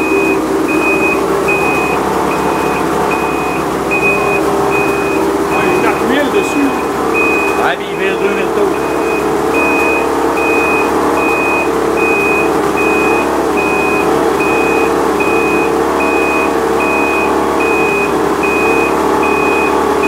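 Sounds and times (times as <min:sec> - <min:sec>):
high electronic beep: 0:00.0 - 0:19.8
two-stroke engine running steadily: 0:00.0 - 0:20.0.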